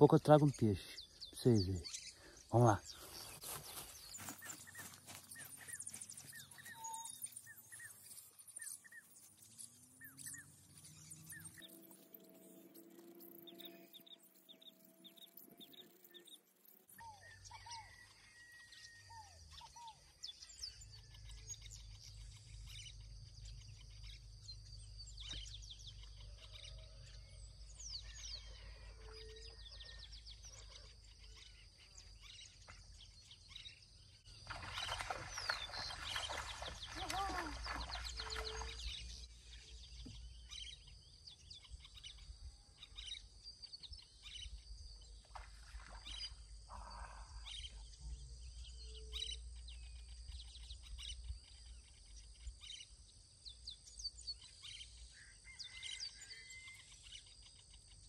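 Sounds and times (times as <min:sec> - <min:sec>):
wild birds chirping and calling: 0:00.0 - 0:58.0.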